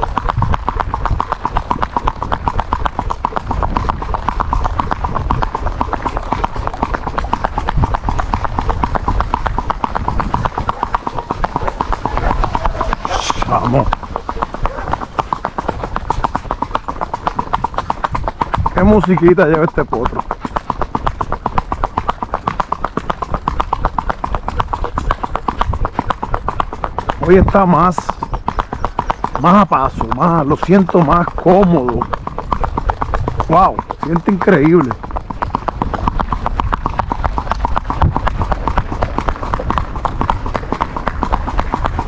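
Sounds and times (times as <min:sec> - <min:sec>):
hoofbeats on asphalt: 0:00.0 - 0:42.0.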